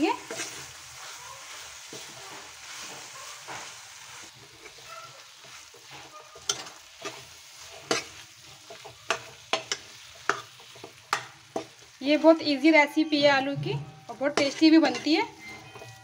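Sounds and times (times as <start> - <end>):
frying sizzle: 0.0 - 16.0
ladle stirring potatoes: 0.0 - 16.0.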